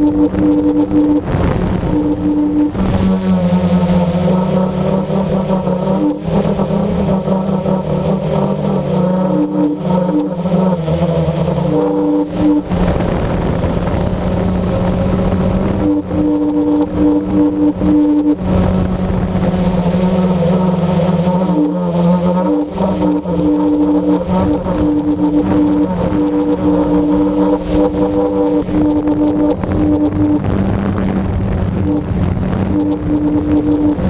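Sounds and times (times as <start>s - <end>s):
quadcopter motors humming: 0.0s - 34.0s.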